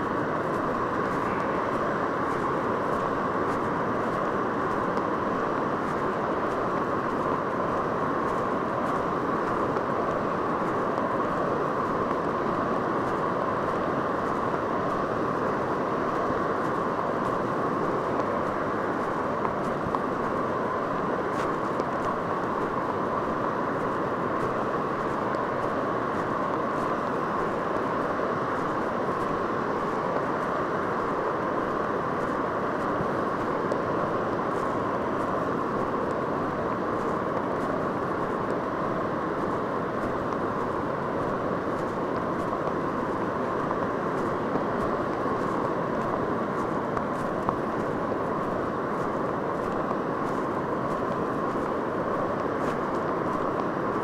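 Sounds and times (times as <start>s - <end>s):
ocean surf on beach: 0.0s - 54.0s.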